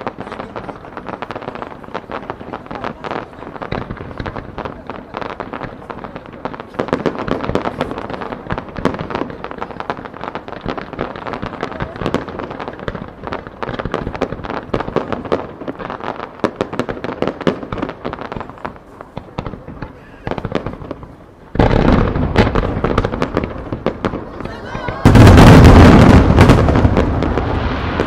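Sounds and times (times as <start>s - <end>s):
deep firework blast: 0.0s - 28.0s
fireworks popping and crackling: 0.0s - 28.0s.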